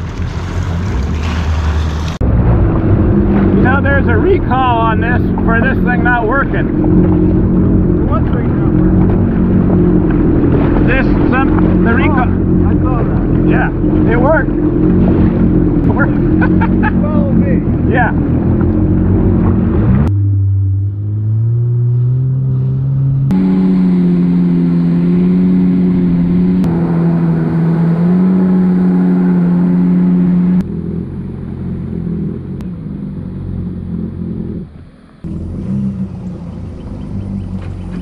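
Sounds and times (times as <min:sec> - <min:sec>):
jet ski engine running: 0:00.0 - 0:38.0
water and wind noise: 0:00.0 - 0:38.0.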